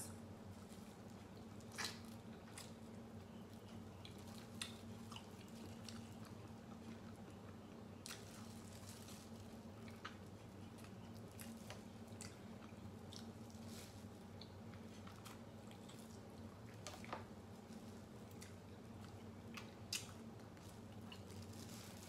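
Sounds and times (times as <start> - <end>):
steady low hum: 0.0 - 22.0
person chewing and smacking: 1.0 - 8.9, 9.5 - 21.7.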